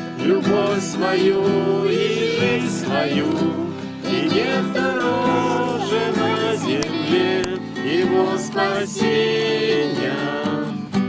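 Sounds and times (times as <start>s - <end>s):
group of voices singing: 0.0s - 10.9s
acoustic guitar: 0.0s - 11.0s.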